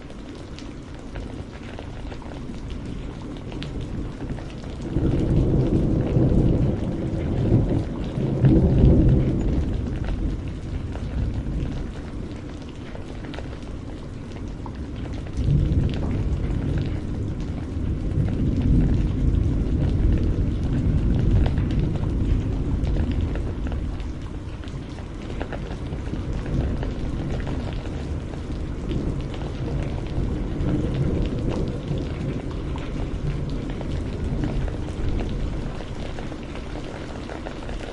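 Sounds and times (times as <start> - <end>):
rain falling: 0.0 - 37.9
deep roll of thunder: 1.9 - 12.4, 14.6 - 37.9.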